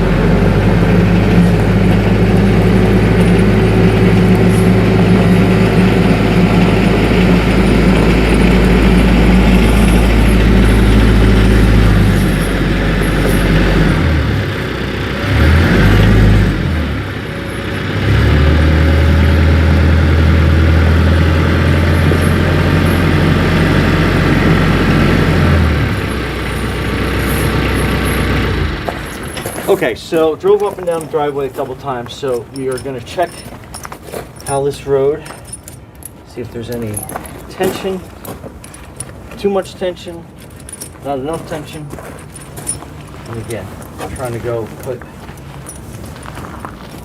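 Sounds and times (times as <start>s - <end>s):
tractor diesel engine running: 0.0s - 39.4s, 40.0s - 47.0s.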